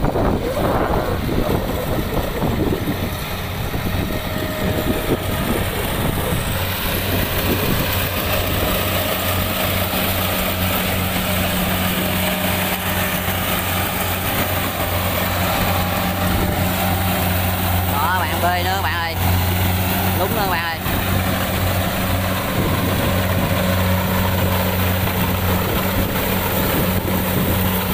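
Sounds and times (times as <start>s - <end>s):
combine harvester engine droning: 0.0s - 27.9s
wind buffeting microphone: 0.0s - 27.9s.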